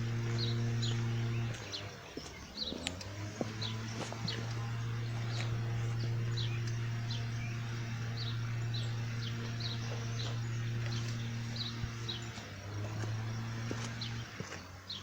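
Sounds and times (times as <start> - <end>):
small bird chirping: 0.0 - 15.0
steady low hum: 0.0 - 15.0.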